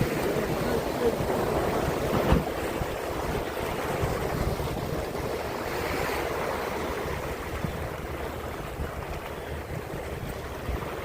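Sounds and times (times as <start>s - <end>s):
sea water washing: 0.0s - 11.0s
wind buffeting microphone: 0.0s - 11.0s.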